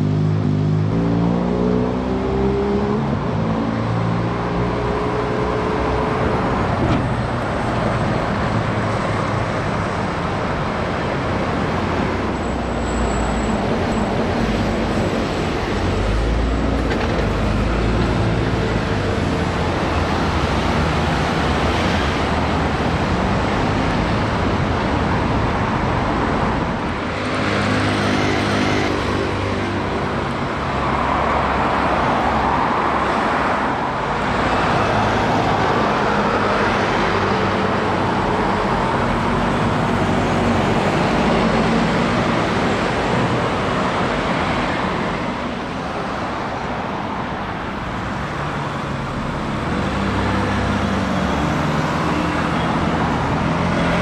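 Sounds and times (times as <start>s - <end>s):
road traffic: 0.0s - 54.0s.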